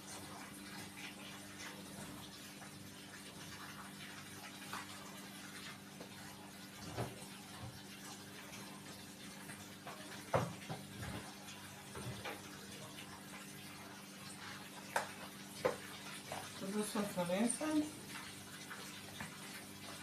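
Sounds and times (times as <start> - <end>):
water running: 0.0 - 20.0.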